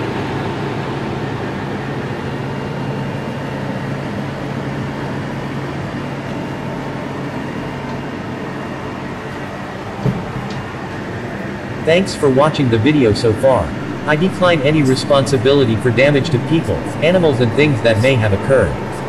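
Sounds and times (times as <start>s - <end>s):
compressor hum: 0.0s - 19.0s
fan air rushing: 0.0s - 19.0s.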